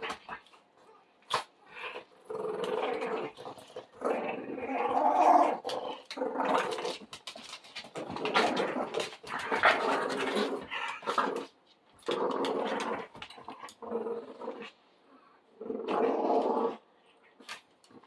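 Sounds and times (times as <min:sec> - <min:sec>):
dogs play-growling: 0:00.0 - 0:18.0.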